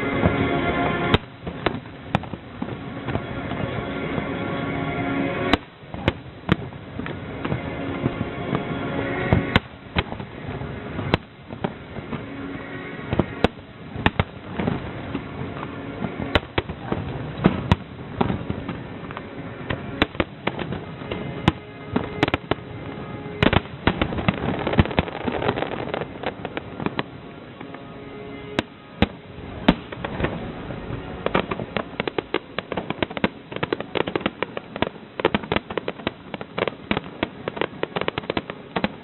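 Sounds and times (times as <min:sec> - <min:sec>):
fireworks bangs and crackles: 0:00.0 - 0:39.0
rumble of fireworks display: 0:00.0 - 0:39.0.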